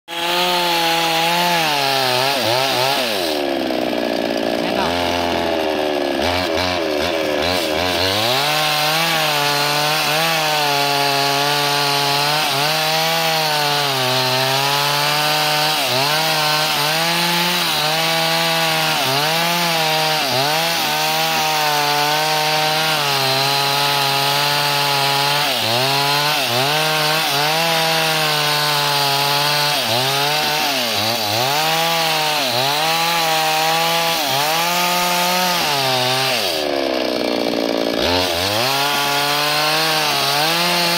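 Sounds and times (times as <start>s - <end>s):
chainsaw cutting log: 0.1s - 40.9s.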